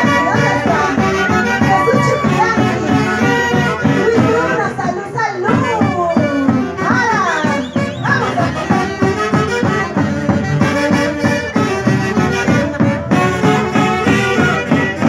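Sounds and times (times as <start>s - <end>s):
folk band playing: 0.0s - 15.0s
saxophones and brass melody: 0.0s - 15.0s
steady drum beat: 0.0s - 15.0s.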